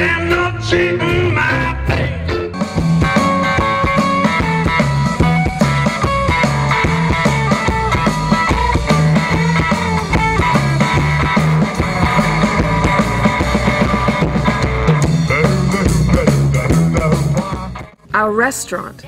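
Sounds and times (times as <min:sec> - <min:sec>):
drum kit steady beat: 0:00.0 - 0:18.0
electric guitar: 0:00.0 - 0:18.0
walking bass: 0:00.0 - 0:18.3.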